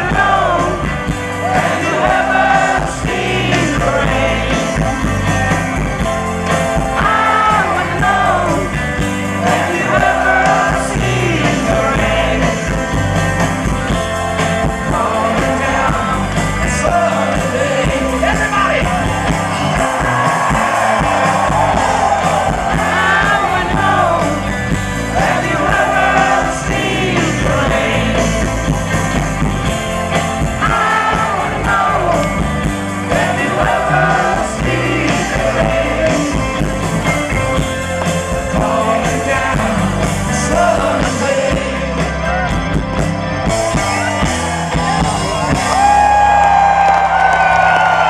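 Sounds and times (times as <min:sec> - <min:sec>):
lead vocal singing: 0:00.0 - 0:13.7, 0:14.4 - 0:42.7
live rock band playing: 0:00.0 - 0:48.0.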